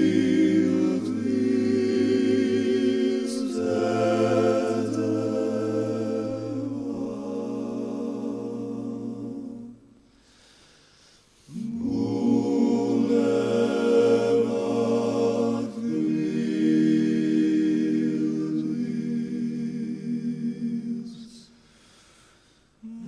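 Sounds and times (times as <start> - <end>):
male choir singing a cappella: 0.0 - 9.8, 11.5 - 21.6.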